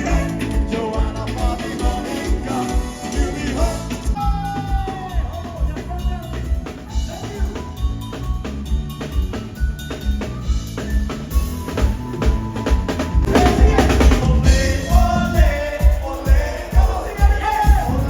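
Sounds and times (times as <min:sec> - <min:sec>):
drum kit: 0:00.0 - 0:18.0
live band playing: 0:00.0 - 0:18.0.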